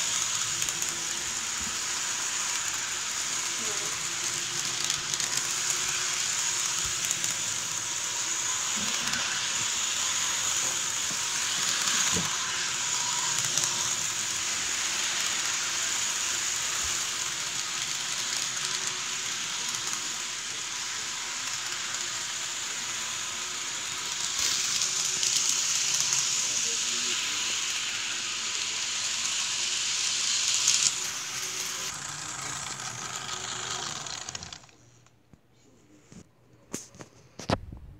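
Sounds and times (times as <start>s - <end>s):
toy train rattling on track: 0.0s - 35.0s.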